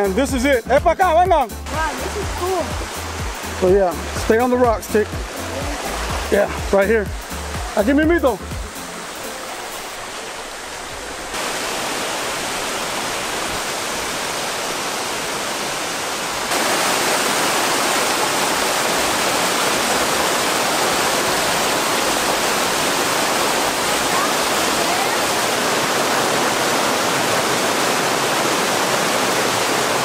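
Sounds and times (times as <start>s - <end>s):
waterfalls splashing into stream: 1.3s - 30.0s.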